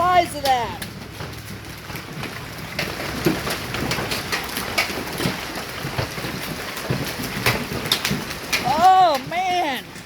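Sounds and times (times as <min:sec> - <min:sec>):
hailstones knocking hard surfaces: 0:00.0 - 0:10.0
hailstones pelting down: 0:00.0 - 0:10.0.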